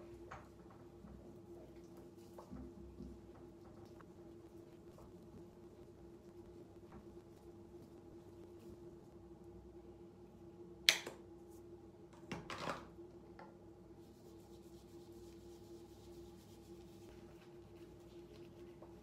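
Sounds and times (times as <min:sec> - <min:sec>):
steady low hum: 0:00.0 - 0:12.2, 0:13.0 - 0:19.0.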